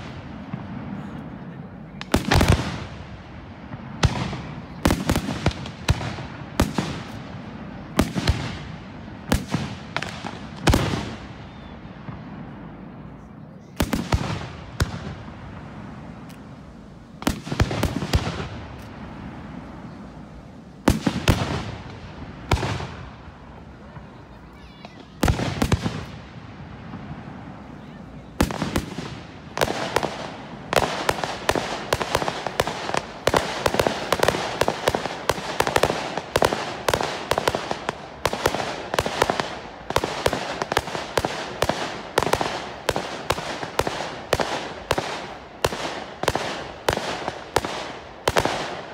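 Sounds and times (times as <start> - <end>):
fireworks bangs: 0.0 - 48.9
fireworks crackling: 0.0 - 48.9.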